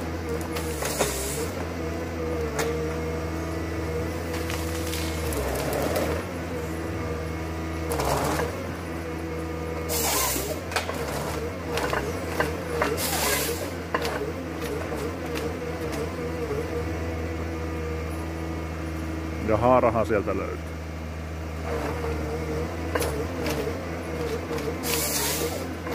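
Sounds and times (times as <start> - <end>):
harvester engine running: 0.0 - 25.9.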